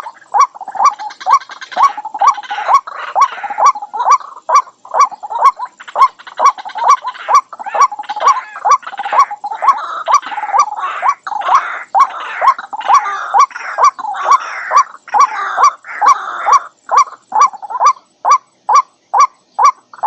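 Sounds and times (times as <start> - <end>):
harsh raspy croaking: 0.0 - 20.0.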